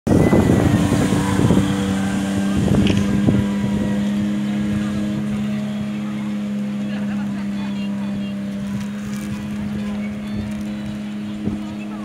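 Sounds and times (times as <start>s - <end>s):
rushing boat wake: 0.1s - 12.0s
speedboat engine droning: 0.1s - 12.0s
wind buffeting microphone: 0.1s - 12.0s.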